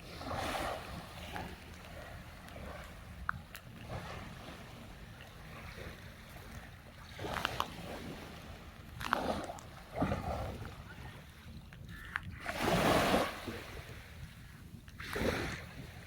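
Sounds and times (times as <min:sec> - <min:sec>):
sea waves washing ashore: 0:00.0 - 0:16.0.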